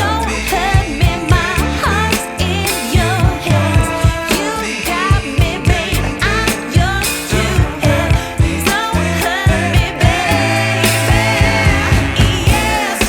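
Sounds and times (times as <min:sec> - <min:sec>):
person singing: 0:00.0 - 0:13.0
pop music with steady beat: 0:00.0 - 0:13.0.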